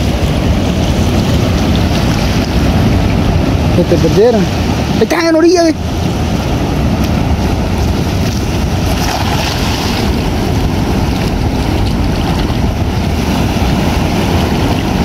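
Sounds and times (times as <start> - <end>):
ocean surf on beach: 0.0 - 15.0
wind buffeting microphone: 0.0 - 15.0.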